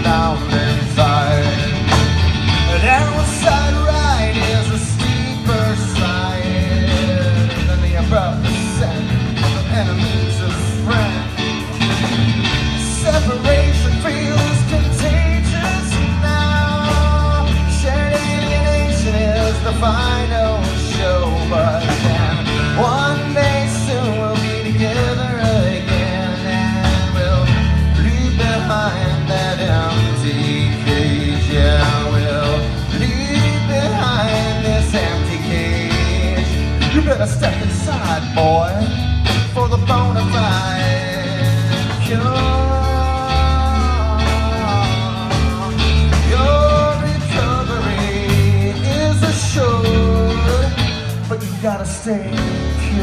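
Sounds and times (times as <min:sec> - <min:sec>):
bending lead guitar line: 0:00.0 - 0:53.0
live country-rock band: 0:00.0 - 0:53.0.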